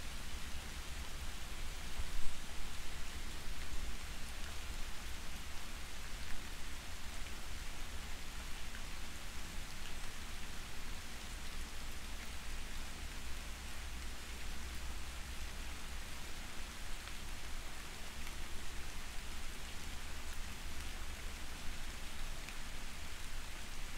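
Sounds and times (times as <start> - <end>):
soft rain hiss: 0.0 - 23.9.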